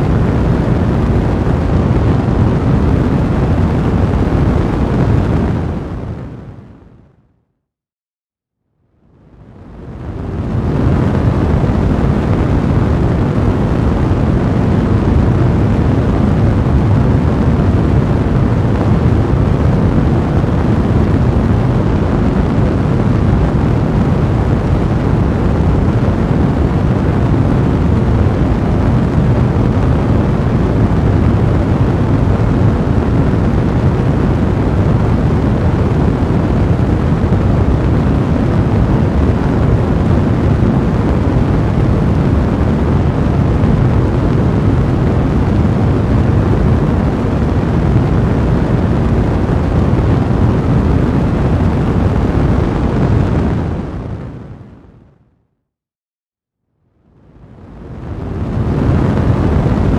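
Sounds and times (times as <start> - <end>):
fire crackling and rushing: 0.0 - 6.8, 9.3 - 54.7, 57.6 - 59.9.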